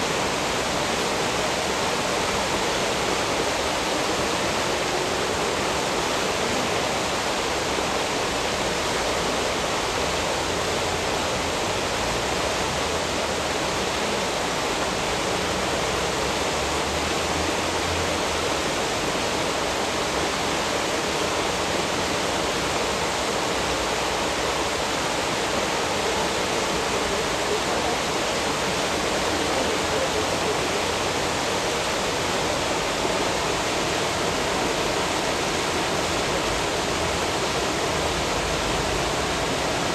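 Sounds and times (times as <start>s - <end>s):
fast water rushing: 0.0s - 39.9s.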